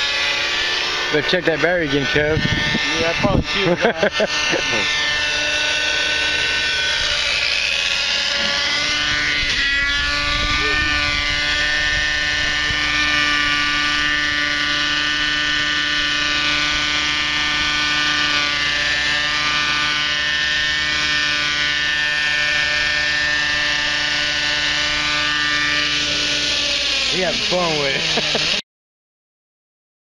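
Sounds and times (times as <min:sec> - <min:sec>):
model helicopter engine and rotor: 0:00.0 - 0:28.6.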